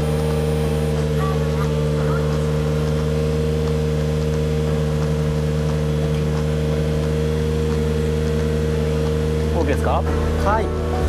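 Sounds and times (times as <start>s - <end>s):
car exhaust deep engine note: 0.0s - 11.0s.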